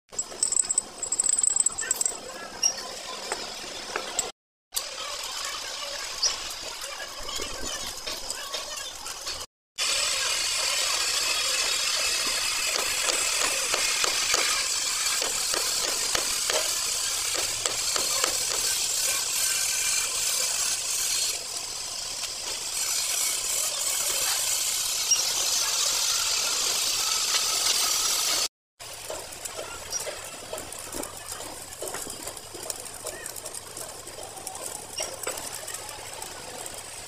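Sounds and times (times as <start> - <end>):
welding arc crackling: 4.8 - 37.0.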